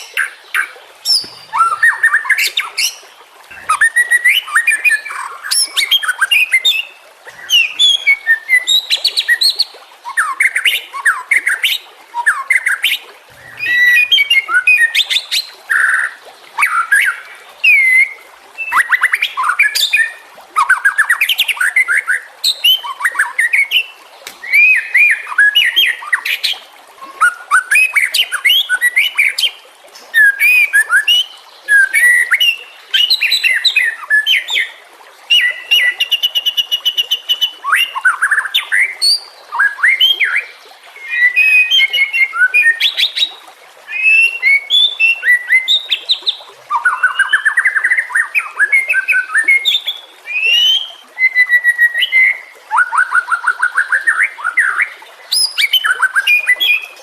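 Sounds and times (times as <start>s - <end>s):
bird singing whistled phrases: 0.0s - 23.8s, 24.4s - 26.3s, 35.3s - 43.0s, 43.9s - 56.9s.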